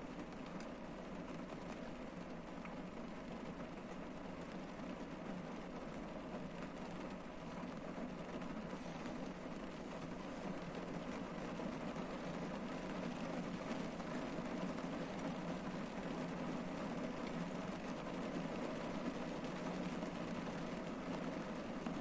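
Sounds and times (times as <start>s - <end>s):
rain on a car roof: 0.0s - 22.0s.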